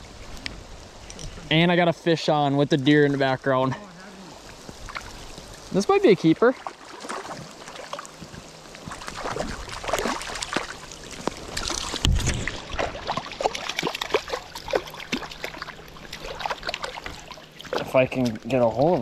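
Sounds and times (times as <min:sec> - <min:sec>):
water splashing and sloshing: 0:02.7 - 0:19.0.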